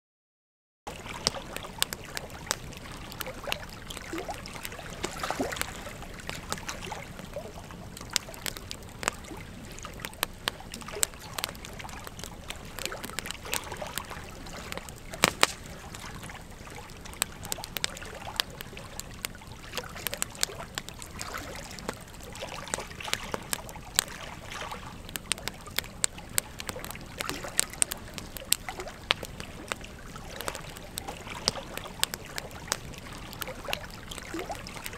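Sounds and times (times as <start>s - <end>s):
pops and snaps of fire: 0.9s - 34.9s
wood fire crackling: 0.9s - 34.9s.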